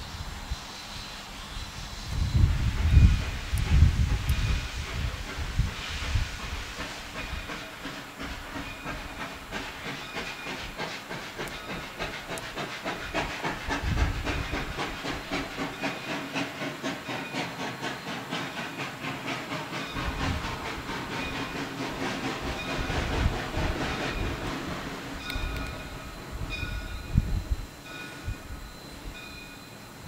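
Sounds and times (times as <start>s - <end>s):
steam hissing: 0.0s - 30.0s
steam locomotive exhaust chuffs: 0.0s - 30.0s.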